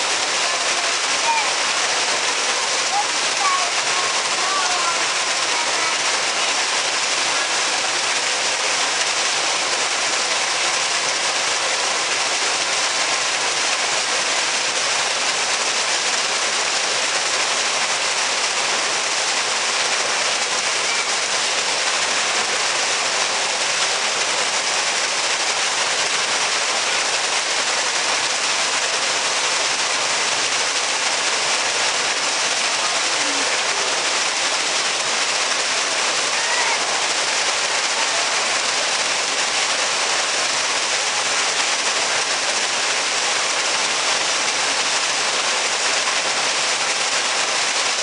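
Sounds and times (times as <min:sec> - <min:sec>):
waterfall splashing onto rocks: 0:00.0 - 0:48.0.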